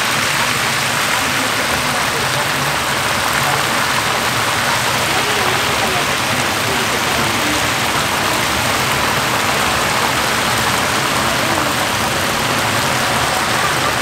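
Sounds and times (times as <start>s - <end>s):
oil sizzling in deep fryer: 0.0s - 14.0s.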